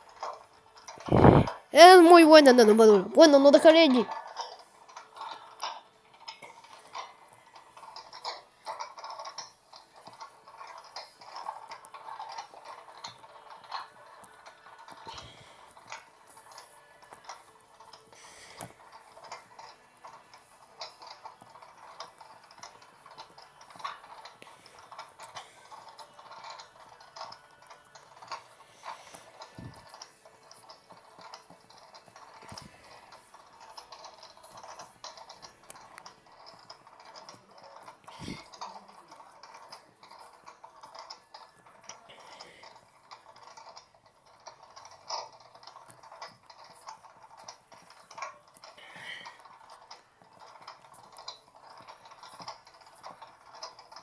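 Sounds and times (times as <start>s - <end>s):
washing machine churning water: 0.0s - 54.0s.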